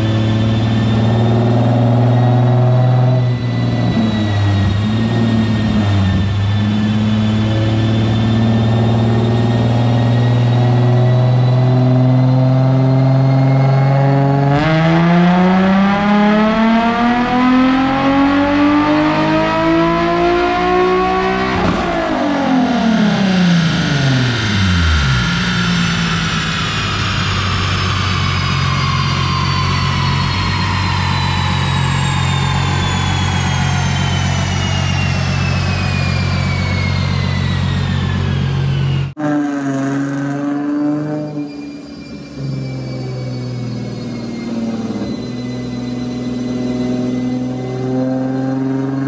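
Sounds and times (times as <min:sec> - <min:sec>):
car engine revving on dyno: 0:00.0 - 0:49.0.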